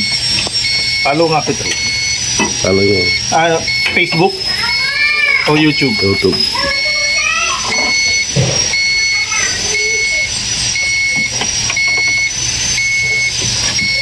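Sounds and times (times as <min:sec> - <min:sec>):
electronic two-tone beeps: 0:00.0 - 0:04.7, 0:05.5 - 0:14.0
steady low hum: 0:00.0 - 0:14.0.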